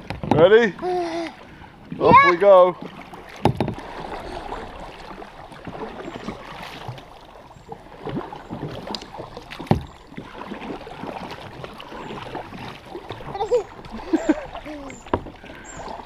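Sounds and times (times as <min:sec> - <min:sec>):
water splashing and churning: 0:00.0 - 0:16.0.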